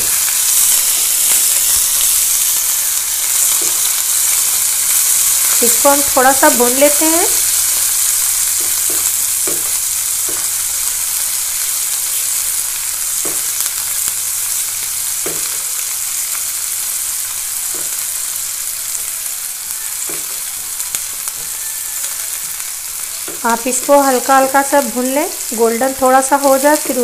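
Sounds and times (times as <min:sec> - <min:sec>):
onions sizzling in oil: 0:00.0 - 0:27.0.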